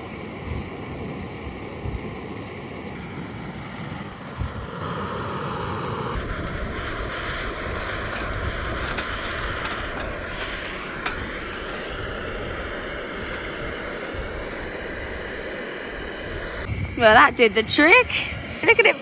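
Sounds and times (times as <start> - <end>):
gas stove burning: 0.0 - 19.0
wind rumbling on microphone: 0.0 - 19.0.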